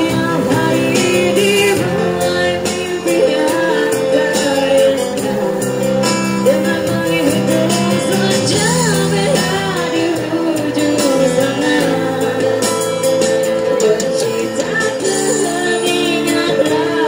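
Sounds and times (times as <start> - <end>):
acoustic guitar: 0.0 - 17.0
electric bass: 0.0 - 17.0
keyboard: 0.0 - 17.0
woman singing into microphone: 0.0 - 17.0.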